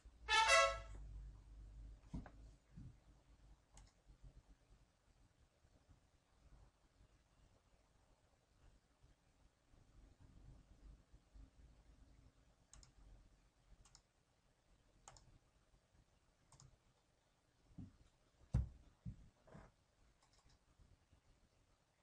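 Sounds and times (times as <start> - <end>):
faint background noise: 0.0 - 22.0.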